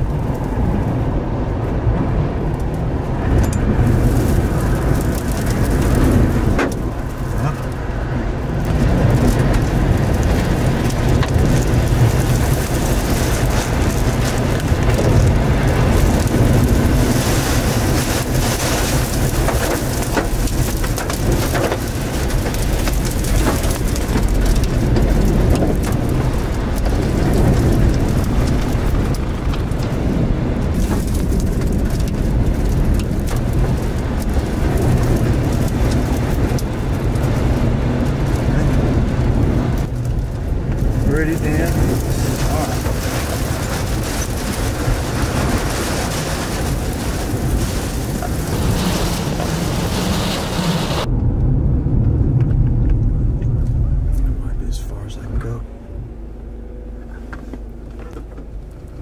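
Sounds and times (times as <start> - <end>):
deep rumble: 0.0 - 59.0
rain and debris pelting vehicle: 0.0 - 59.0
tornado wind blowing: 0.0 - 59.0.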